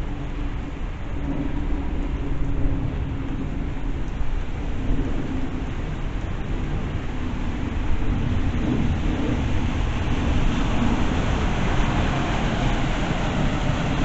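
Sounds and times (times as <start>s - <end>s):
low continuous rumble: 0.0s - 14.0s
steady rain: 0.0s - 14.0s.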